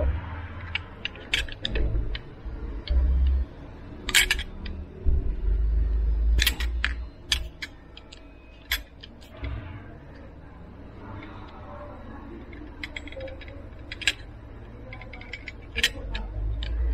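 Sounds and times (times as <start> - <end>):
hard parts clicking and knocking: 0.0 - 16.9.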